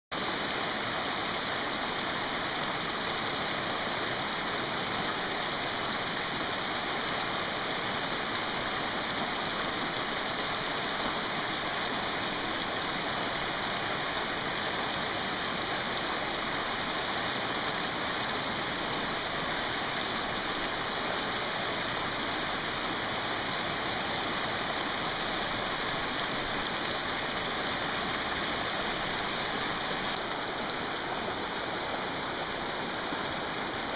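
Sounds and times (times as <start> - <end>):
river rushing over stones: 0.1 - 33.9.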